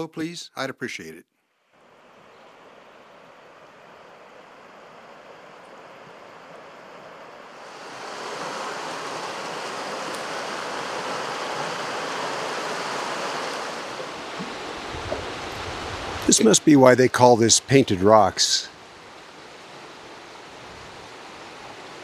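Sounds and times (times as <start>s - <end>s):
river rushing over rocks: 1.8s - 22.0s.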